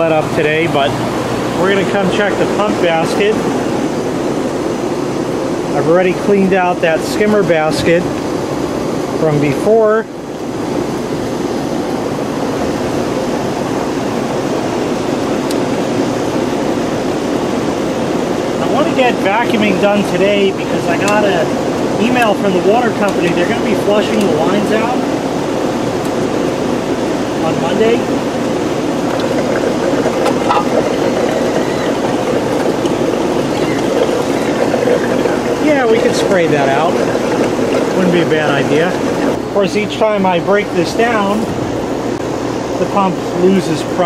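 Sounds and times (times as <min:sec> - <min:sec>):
pool pump running: 0:00.0 - 0:44.0.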